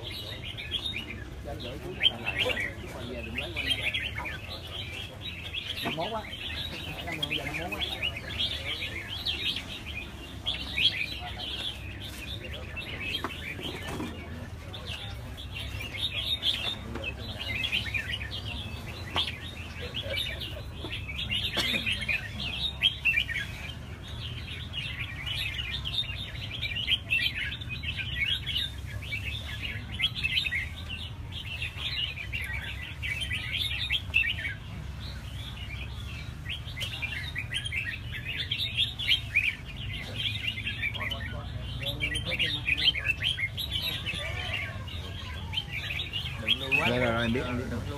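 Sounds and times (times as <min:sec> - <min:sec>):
birds chirping and warbling: 0:00.0 - 0:47.9.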